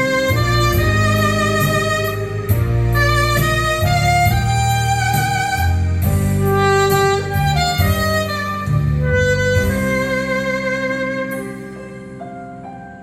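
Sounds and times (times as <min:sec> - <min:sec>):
backing accompaniment with bass: 0:00.0 - 0:13.0
saxophone melody: 0:00.0 - 0:13.0.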